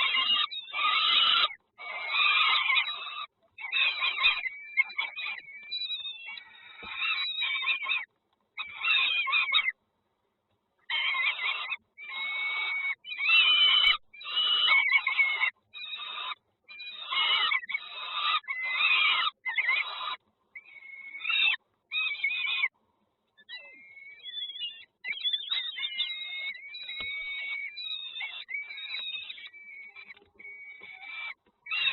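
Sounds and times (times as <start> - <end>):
nestling birds chirping: 0.0 - 9.8, 10.8 - 31.9.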